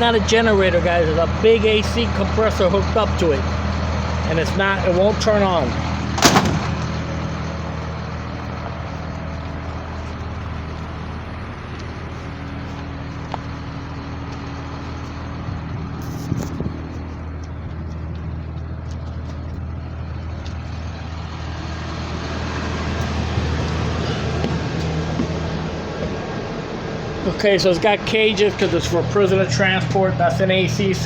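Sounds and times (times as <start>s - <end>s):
bus engine idling: 0.0s - 31.0s.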